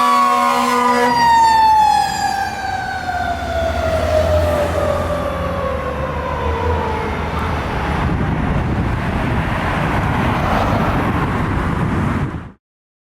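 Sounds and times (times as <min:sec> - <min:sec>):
fire truck siren: 0:00.0 - 0:11.8
road noise rushing: 0:00.0 - 0:12.6
diesel engine rumble: 0:00.8 - 0:12.6.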